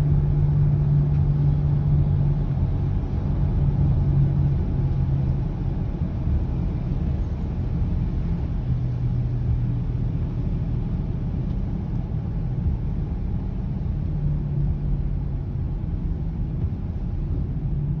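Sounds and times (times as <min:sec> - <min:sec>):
car low humming noise: 0:00.0 - 0:18.0.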